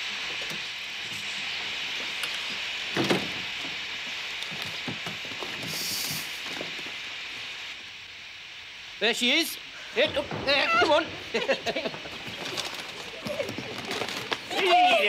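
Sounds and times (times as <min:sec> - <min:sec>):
steam train hissing: 0:00.0 - 0:13.7.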